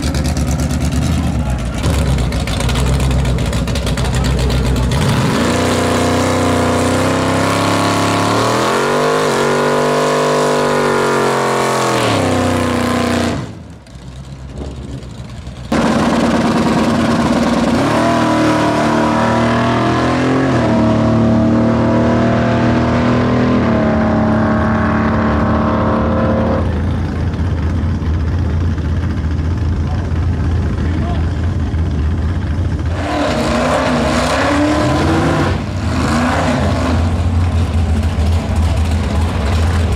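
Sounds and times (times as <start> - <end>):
drag car engine revving: 0.0 - 39.9.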